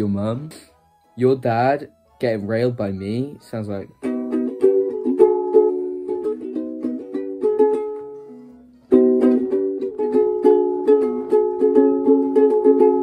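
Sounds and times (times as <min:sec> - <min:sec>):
strummed string chords: 0:00.0 - 0:13.0.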